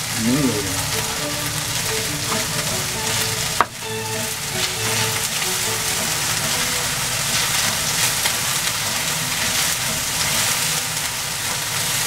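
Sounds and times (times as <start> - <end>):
pork sizzling in a wok: 0.0 - 12.0.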